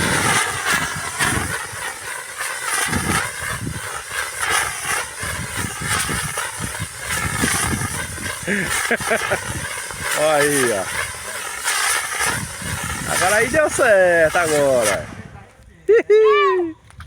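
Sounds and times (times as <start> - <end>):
warbling whistle: 0.0 - 15.2
low crackles: 0.0 - 15.8
firework hissing: 0.0 - 15.9.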